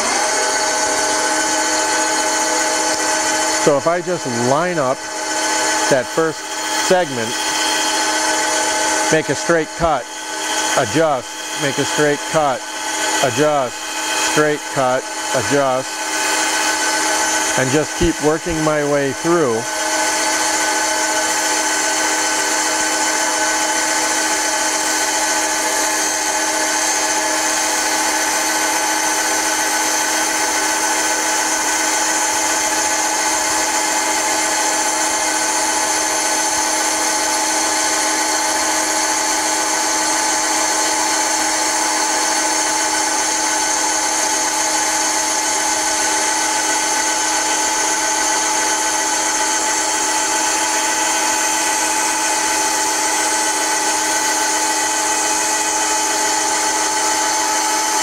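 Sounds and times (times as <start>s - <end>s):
bandsaw cutting wood: 0.0s - 58.0s.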